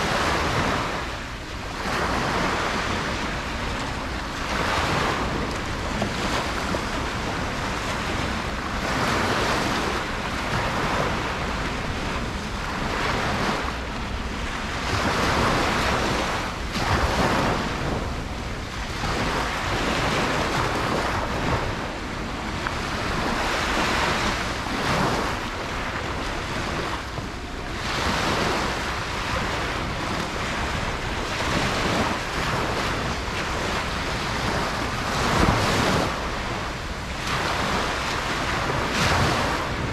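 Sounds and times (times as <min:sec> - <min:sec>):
ocean waves breaking: 0:00.0 - 0:39.9
wind on microphone: 0:00.0 - 0:39.9.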